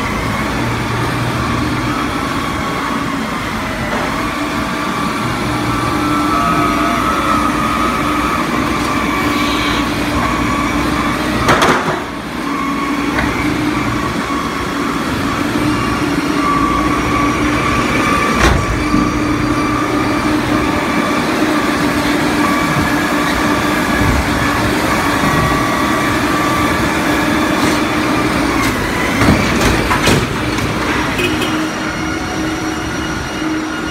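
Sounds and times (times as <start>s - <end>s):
forklift whine: 0.0s - 33.9s.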